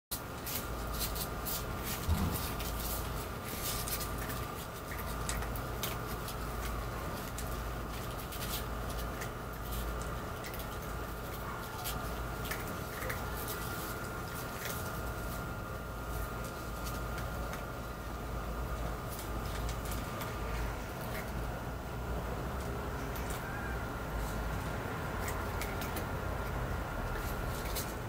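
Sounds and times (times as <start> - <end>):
kittens scratching and rustling: 0.1 - 28.0
steady low hum: 0.1 - 28.0.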